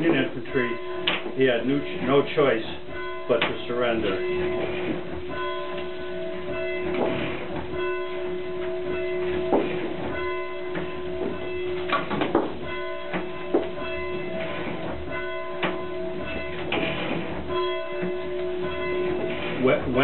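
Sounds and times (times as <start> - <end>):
church bell ringing: 0.0 - 20.0.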